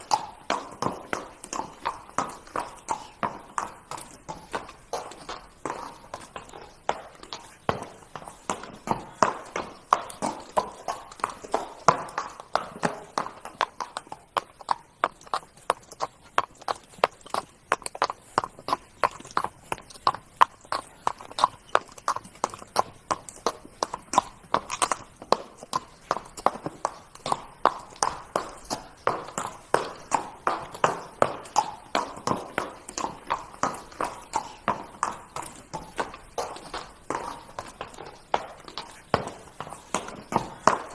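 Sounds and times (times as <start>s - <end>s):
horse hooves trotting: 0.0s - 40.9s.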